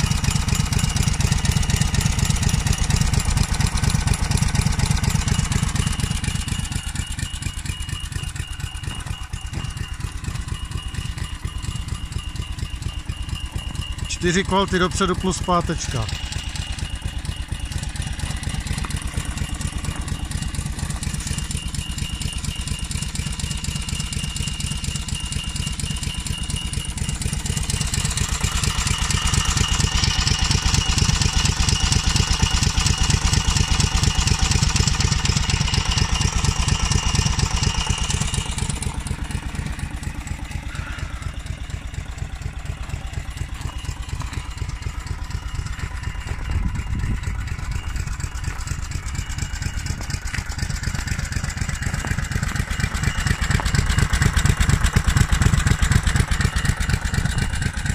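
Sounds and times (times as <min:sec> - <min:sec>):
small engine idling: 0:00.0 - 0:57.9.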